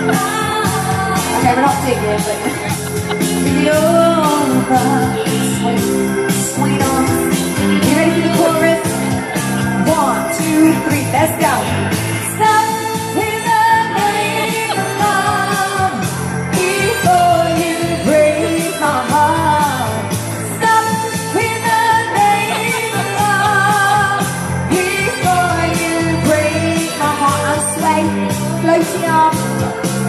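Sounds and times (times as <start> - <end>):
woman singing pop song: 0.0 - 30.0.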